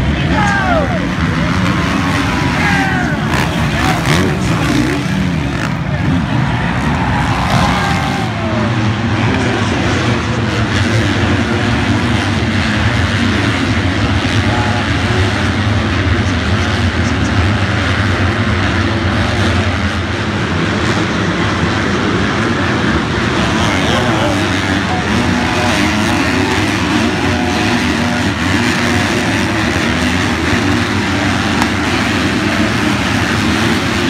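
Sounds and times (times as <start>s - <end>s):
motocross bikes racing: 0.0s - 34.0s.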